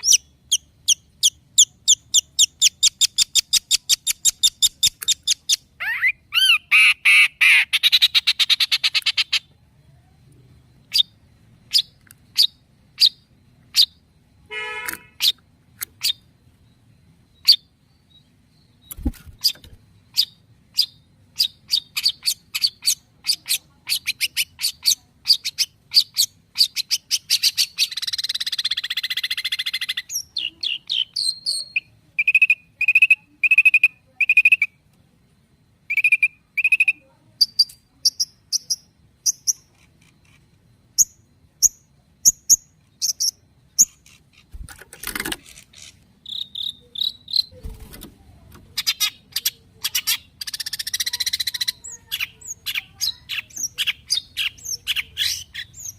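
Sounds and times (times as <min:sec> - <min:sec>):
bird singing: 0:00.0 - 0:55.9.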